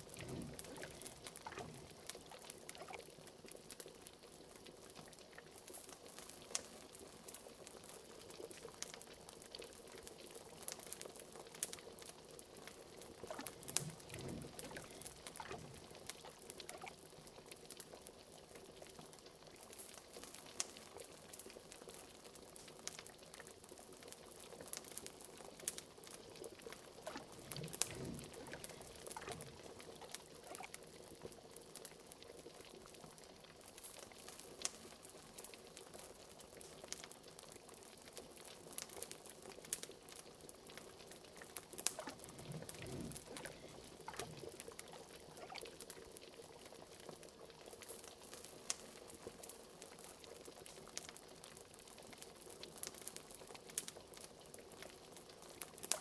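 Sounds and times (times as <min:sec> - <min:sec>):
liquid bubbling on the boil: 0:00.0 - 0:56.0
wood fire crackling: 0:00.0 - 0:56.0.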